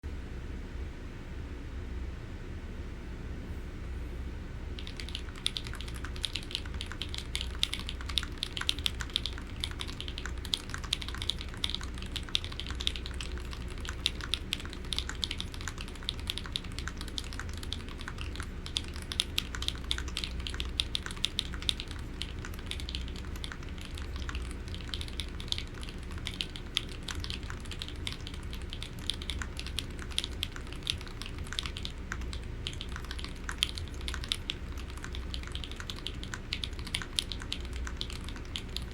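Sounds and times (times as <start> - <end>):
keyboard typing clicks: 4.8 - 38.9.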